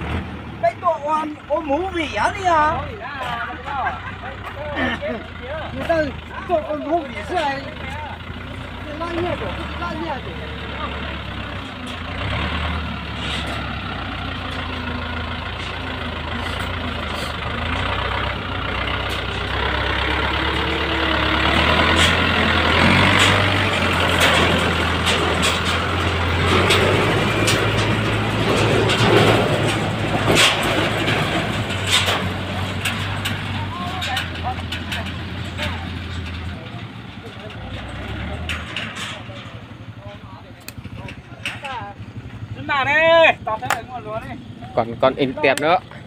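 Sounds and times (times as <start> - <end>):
tractor diesel engine running hard: 0.0 - 46.0.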